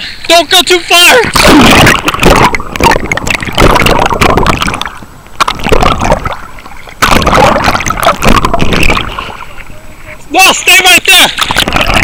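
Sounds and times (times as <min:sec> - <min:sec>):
water splashing and sloshing: 0:01.0 - 0:12.0.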